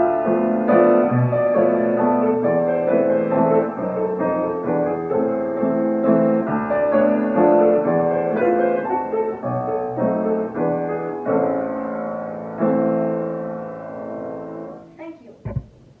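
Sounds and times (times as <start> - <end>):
upright piano chords: 0.0 - 16.0.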